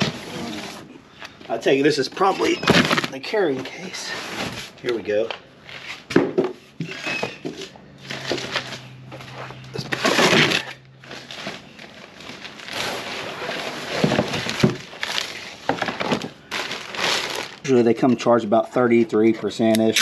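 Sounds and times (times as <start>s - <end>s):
cardboard scraping and rustling: 0.0s - 0.9s, 1.6s - 17.6s.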